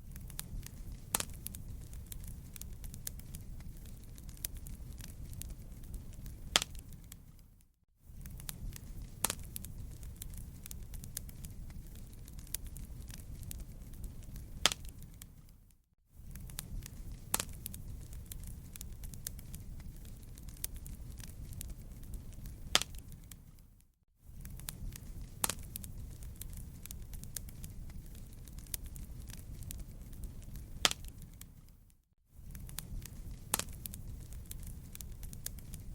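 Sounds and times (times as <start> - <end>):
low rumble of flames: 0.0 - 35.9
wood fire crackling: 0.0 - 35.9
sharp pops of fire: 0.1 - 7.4, 8.2 - 15.5, 16.2 - 23.6, 24.4 - 31.8, 32.4 - 35.9.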